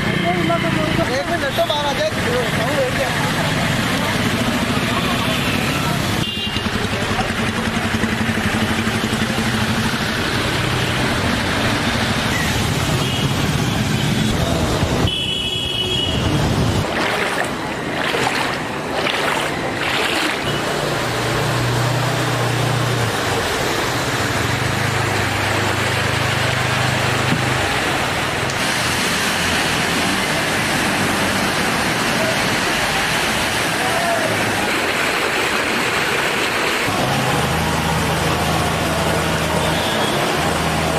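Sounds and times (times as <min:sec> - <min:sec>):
water rushing: 0:00.0 - 0:15.1, 0:16.0 - 0:40.9.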